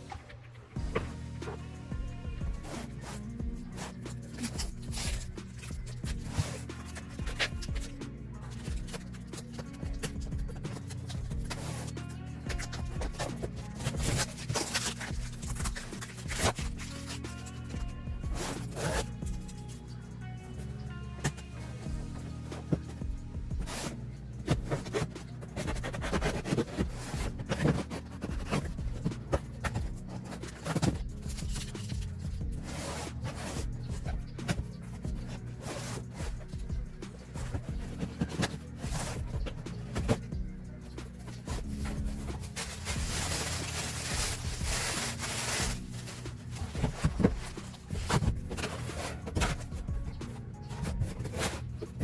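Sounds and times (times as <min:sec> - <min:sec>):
hands handling packaging: 0:00.0 - 0:52.0.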